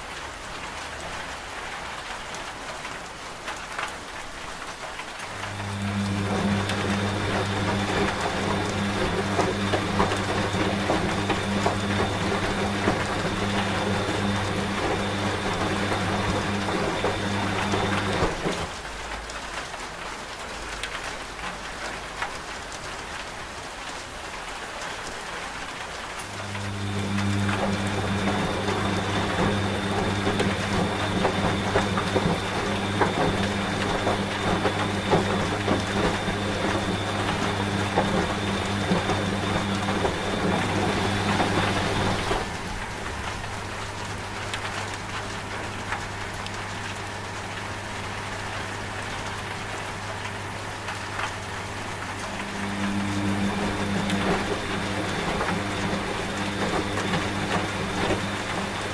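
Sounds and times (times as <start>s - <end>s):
washing machine humming: 0.0s - 22.5s, 23.1s - 58.9s
rain falling: 0.0s - 58.9s.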